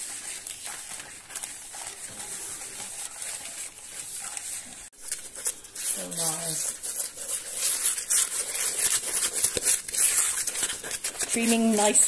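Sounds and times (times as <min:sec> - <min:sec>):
paper wrapper rustling and scraping: 0:00.0 - 0:12.0.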